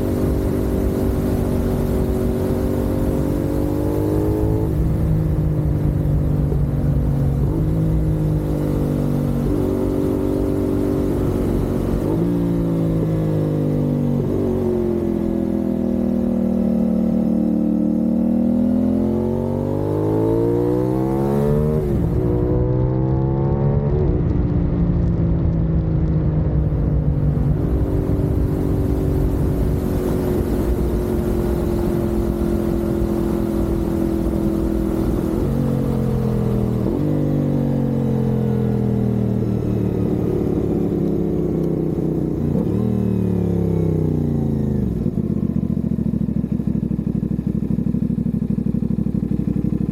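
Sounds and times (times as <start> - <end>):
motorcycle engine revving and shifting: 0.0 - 49.9.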